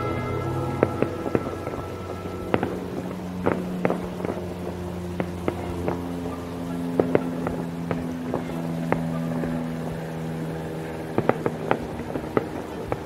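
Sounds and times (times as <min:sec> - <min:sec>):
fireworks bursting with sharp bangs: 0:00.0 - 0:13.0
steady low hum: 0:00.0 - 0:13.0.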